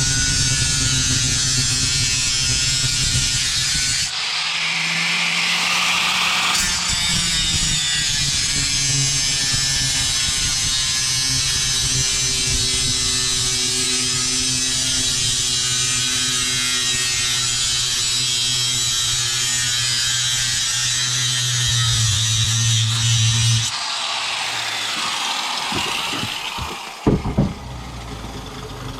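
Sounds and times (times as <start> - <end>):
power tool cutting wood: 0.0 - 28.7.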